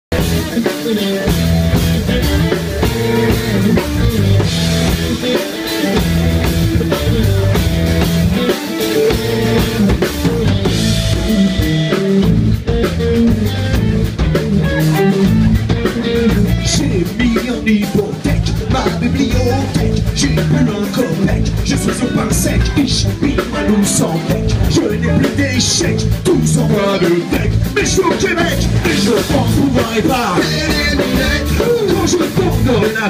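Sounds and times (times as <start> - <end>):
drum kit steady beat: 0.1 - 33.0
electric bass line: 0.1 - 33.0
electric guitar: 0.1 - 33.0.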